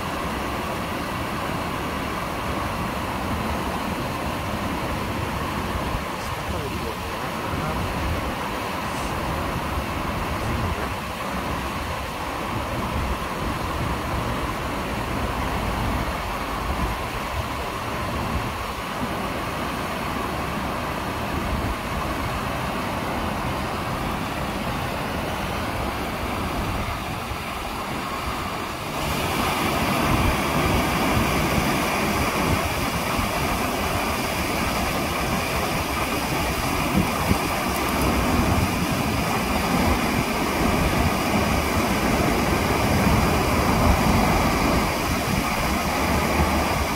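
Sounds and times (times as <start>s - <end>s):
waterfall rushing over rocks: 0.0s - 46.9s.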